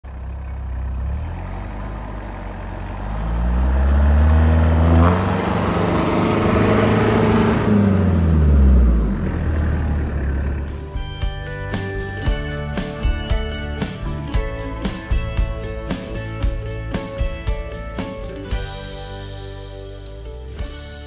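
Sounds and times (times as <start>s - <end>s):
truck engine revving under load: 0.6s - 20.8s.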